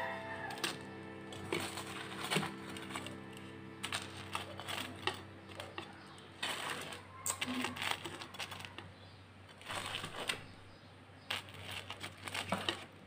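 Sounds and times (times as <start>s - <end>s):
fried crust crackling and crunching: 0.1s - 10.6s, 11.2s - 13.0s.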